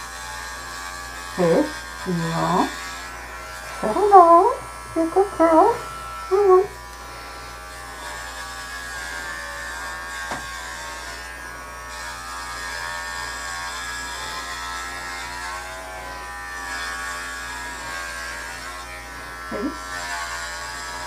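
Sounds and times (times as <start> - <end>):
electric clippers buzzing: 0.0 - 21.0.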